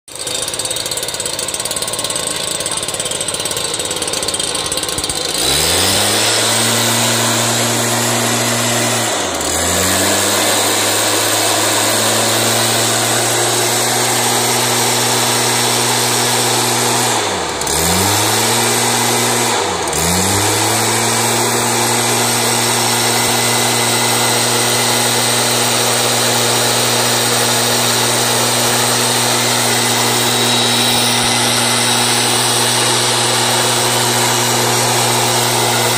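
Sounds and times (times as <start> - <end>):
two-stroke engine revving: 0.1 - 35.9
blower air rushing: 1.0 - 35.9.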